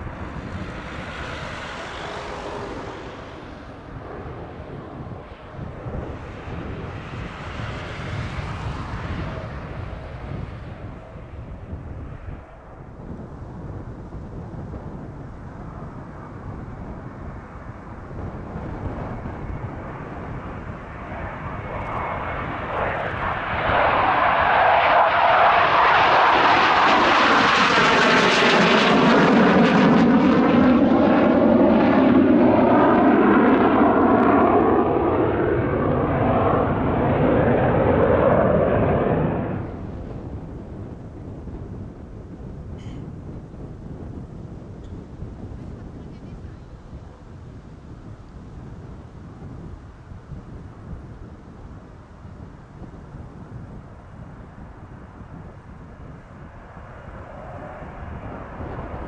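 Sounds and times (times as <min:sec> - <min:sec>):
jet flying low pass: 0:00.0 - 0:59.0.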